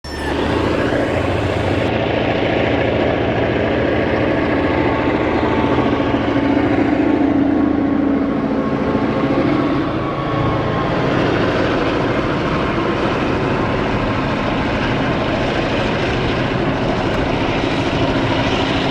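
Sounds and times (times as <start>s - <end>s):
diesel locomotive engine throbbing: 0.0s - 18.9s.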